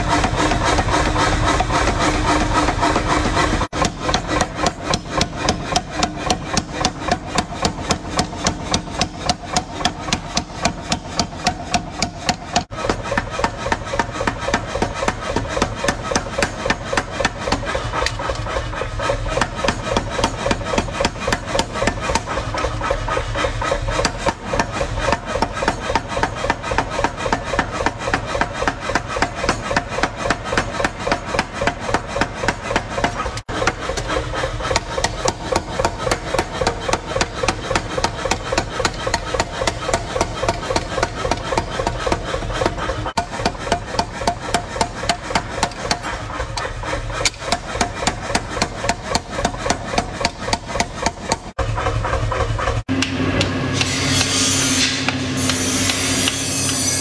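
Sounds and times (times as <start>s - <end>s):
power hammer pounding steel: 0.0s - 57.0s.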